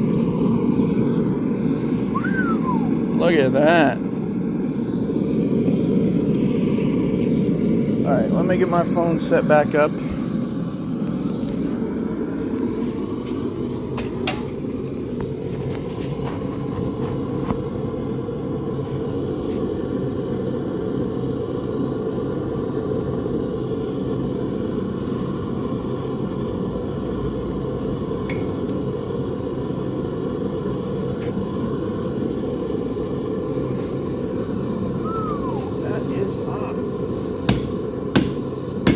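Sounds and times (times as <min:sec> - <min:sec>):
forge roaring: 0:00.0 - 0:38.9.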